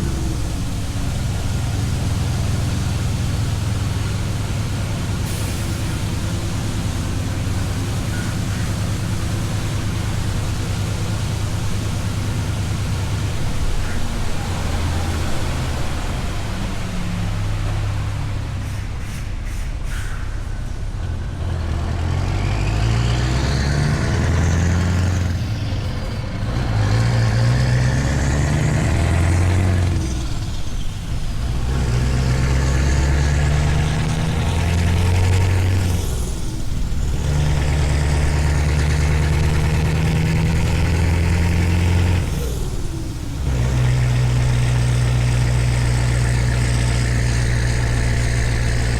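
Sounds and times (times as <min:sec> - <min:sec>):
truck engine accelerating through gears: 0:00.0 - 0:48.9.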